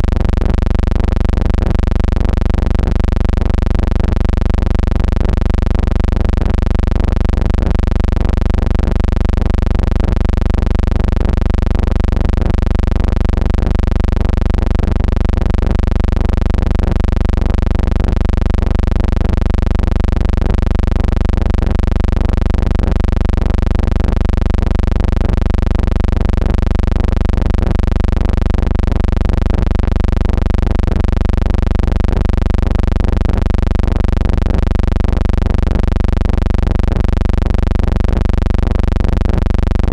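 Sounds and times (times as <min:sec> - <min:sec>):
loud buzzing hum: 0:00.0 - 0:39.9.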